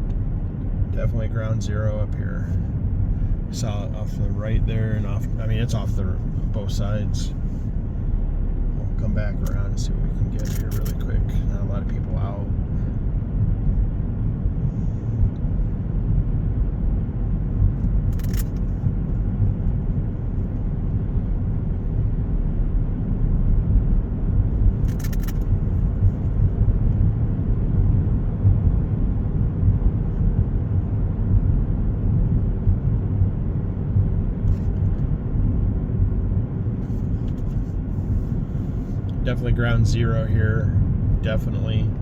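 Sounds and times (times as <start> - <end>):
car interior road rumble: 0.0 - 42.0.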